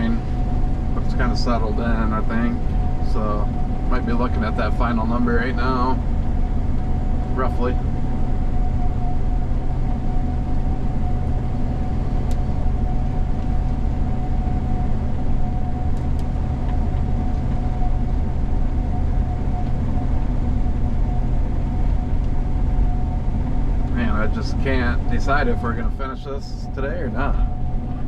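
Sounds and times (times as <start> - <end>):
combine engine rumble and whine: 0.0 - 28.0.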